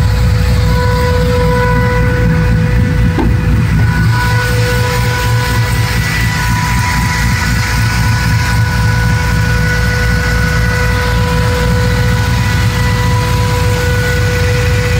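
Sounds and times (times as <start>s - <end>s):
engine idling with low rumble: 0.0s - 14.9s
steady high whine: 0.0s - 14.9s.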